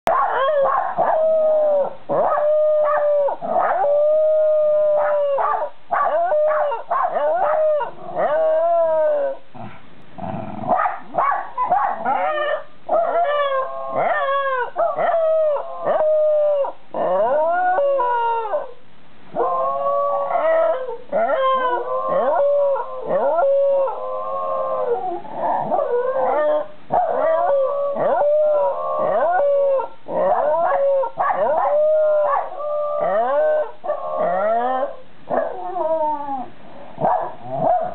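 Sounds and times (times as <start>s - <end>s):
dogs howling: 0.1s - 9.4s, 11.4s - 18.7s, 19.4s - 36.5s.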